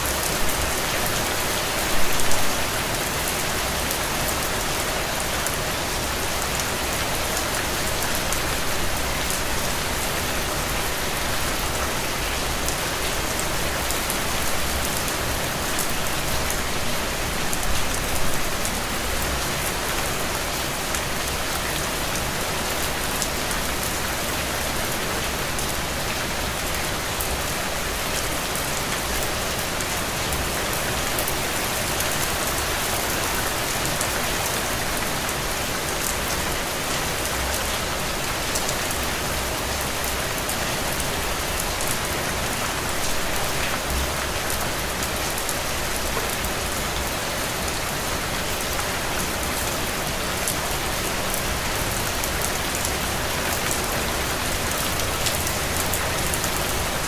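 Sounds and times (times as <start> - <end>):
heavy rain on ground and puddles: 0.0 - 57.0.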